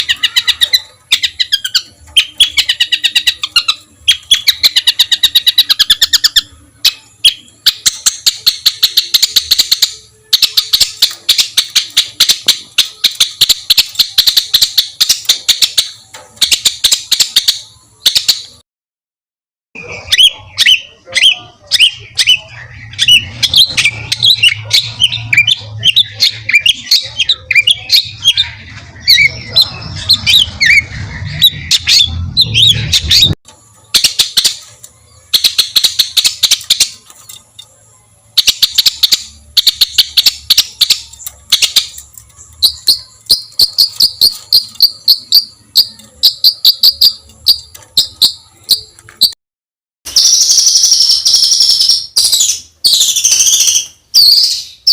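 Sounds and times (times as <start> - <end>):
bird sharp calls: 0.0 - 18.6, 19.8 - 37.4, 38.4 - 49.3
songbird harsh rapid phrases: 0.0 - 18.6, 19.8 - 37.3, 38.2 - 49.3.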